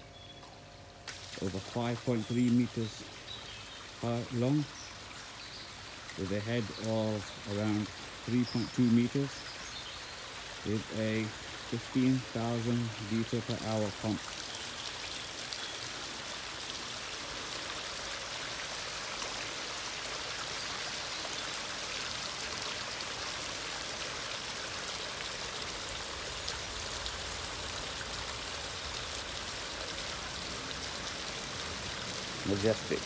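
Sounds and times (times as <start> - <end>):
waterfall splashing into pond: 0.5 - 33.0.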